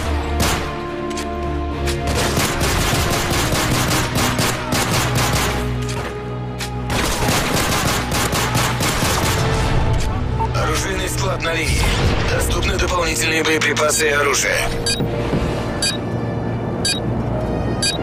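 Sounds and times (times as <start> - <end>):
music with low steady tone: 0.0 - 18.0.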